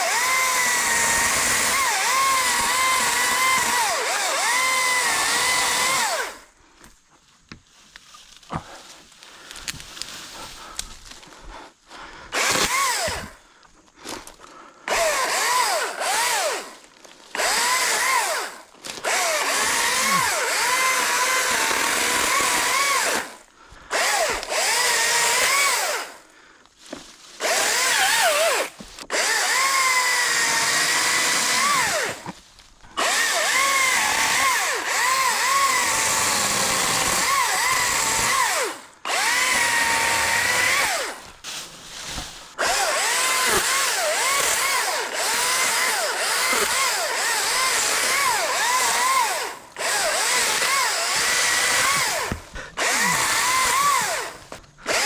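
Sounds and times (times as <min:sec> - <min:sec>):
electric chainsaw whining: 0:00.0 - 0:06.6, 0:12.3 - 0:13.4, 0:14.9 - 0:26.3, 0:27.4 - 0:55.0.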